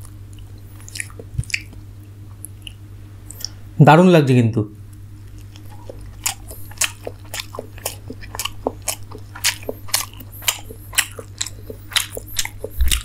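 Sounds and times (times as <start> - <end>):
wet chewing mouth sounds: 0.0 - 3.6, 5.0 - 13.0
constant low hum: 0.0 - 13.0.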